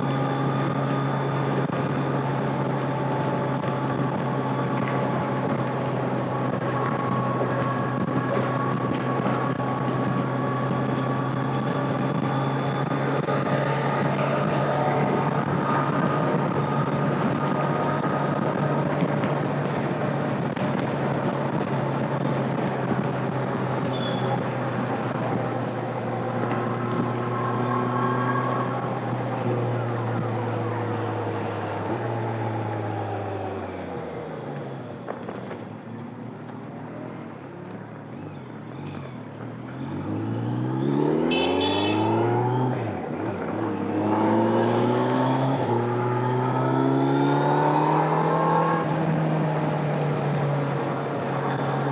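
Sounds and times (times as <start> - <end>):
motorcycle engine and exhaust revving: 0.0 - 51.9.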